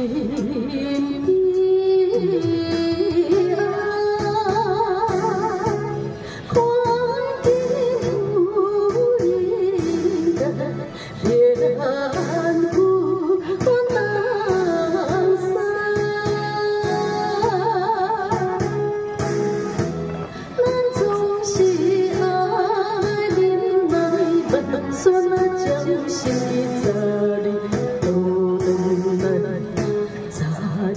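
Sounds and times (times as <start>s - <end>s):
woman singing a slow ballad: 0.0s - 19.2s, 20.6s - 30.9s
instrumental backing music: 0.0s - 30.9s.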